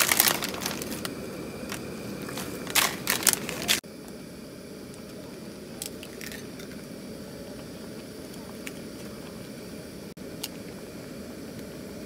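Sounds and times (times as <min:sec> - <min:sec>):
pot bubbling: 0:00.0 - 0:12.0.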